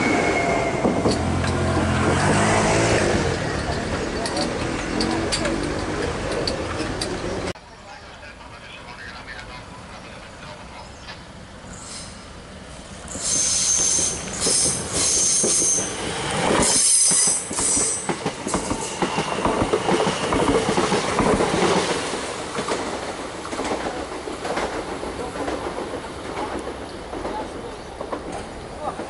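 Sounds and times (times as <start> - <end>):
train wheels rumbling and clattering: 0.0 - 7.6, 12.8 - 29.0.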